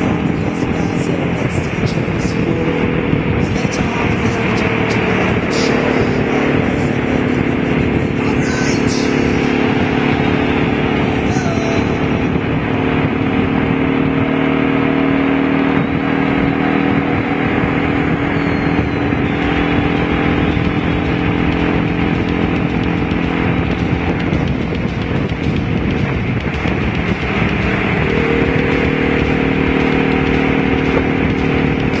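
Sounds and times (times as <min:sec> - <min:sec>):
motorcycle engine cruising: 0:00.0 - 0:32.0
wind noise on microphone: 0:00.0 - 0:32.0.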